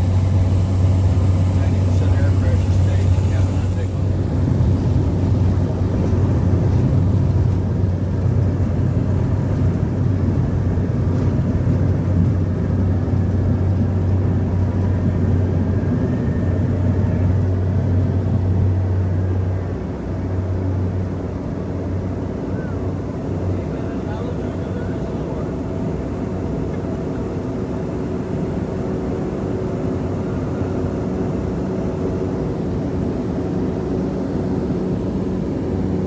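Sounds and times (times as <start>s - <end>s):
vehicle engine drone: 0.0s - 36.0s.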